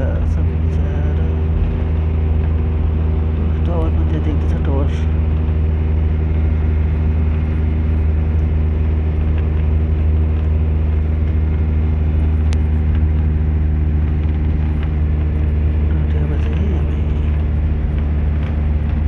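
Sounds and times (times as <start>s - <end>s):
bus engine running: 0.0s - 19.0s
road noise: 0.0s - 19.0s.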